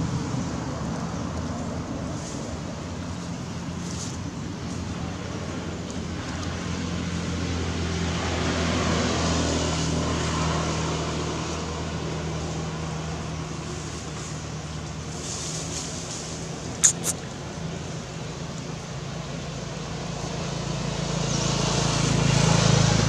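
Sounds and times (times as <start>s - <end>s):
vehicle passing by: 0.0s - 17.2s, 19.3s - 23.0s.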